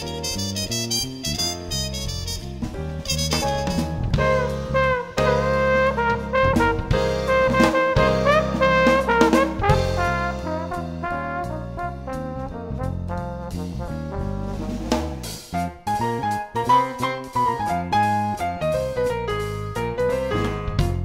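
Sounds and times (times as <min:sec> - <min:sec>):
jazz music with brass horns: 0:00.0 - 0:21.0.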